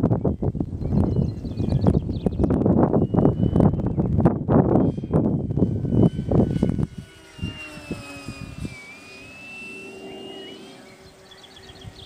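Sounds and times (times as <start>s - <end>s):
model plane motor whine: 0.0s - 12.0s
wind buffeting microphone: 0.0s - 12.0s.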